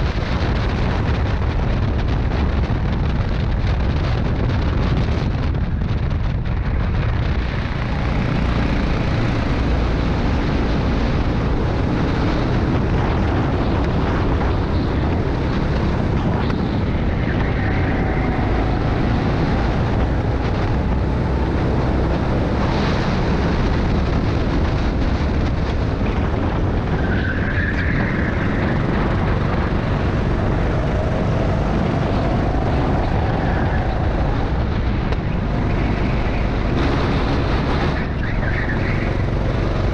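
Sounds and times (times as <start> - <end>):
go-kart engine running hard: 0.0 - 39.9
wind rush on microphone: 0.0 - 39.9.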